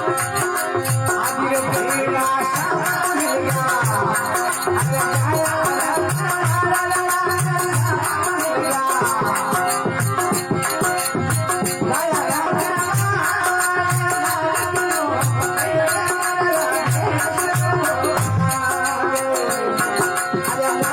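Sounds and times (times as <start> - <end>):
steady drum beat: 0.0 - 20.9.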